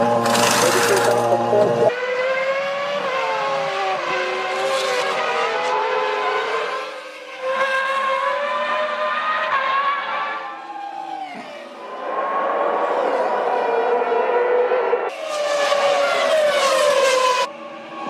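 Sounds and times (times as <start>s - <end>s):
racing car engine at high revs: 0.0s - 18.0s.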